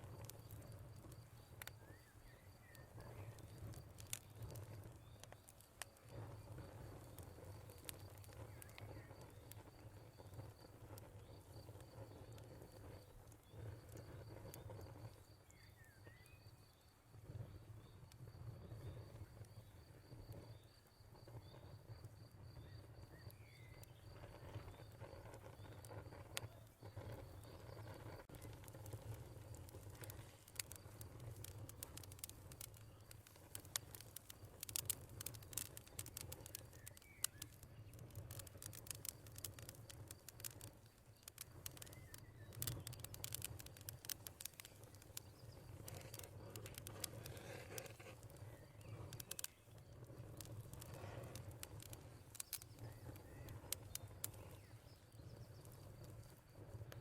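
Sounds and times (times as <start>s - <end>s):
cricket chirping: 0.0s - 57.0s
fire crackling and popping: 0.0s - 57.0s.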